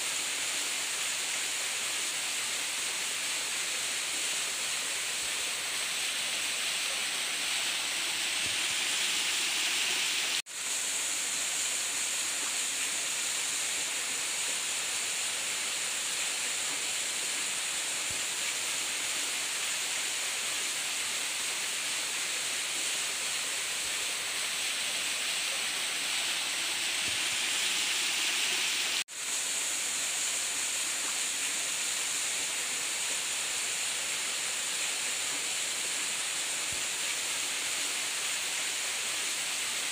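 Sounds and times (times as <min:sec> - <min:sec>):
water running over rocks: 0:00.0 - 0:39.9.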